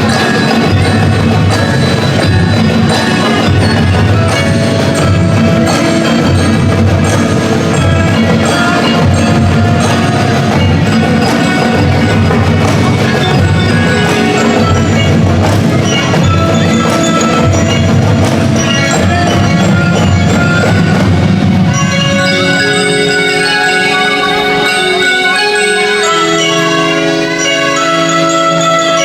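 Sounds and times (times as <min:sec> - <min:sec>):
drums: 0:00.0 - 0:29.0
mallet percussion notes: 0:00.0 - 0:29.0
marching band playing: 0:00.0 - 0:29.0.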